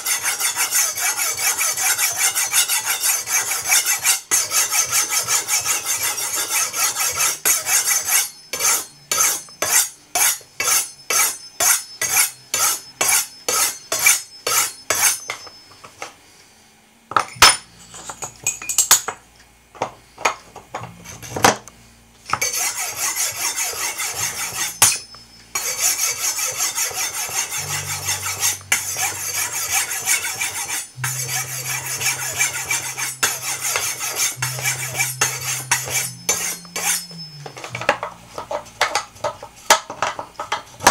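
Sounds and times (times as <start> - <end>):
knife scraping on ceramic rods: 0.0 - 16.0, 22.3 - 40.9.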